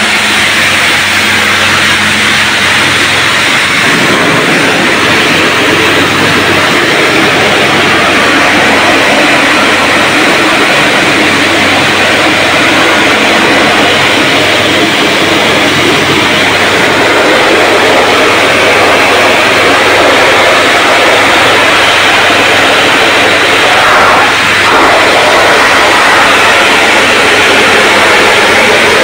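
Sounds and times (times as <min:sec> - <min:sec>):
low hum: 0:00.0 - 0:29.0
pressure washer jet hissing: 0:00.0 - 0:29.0.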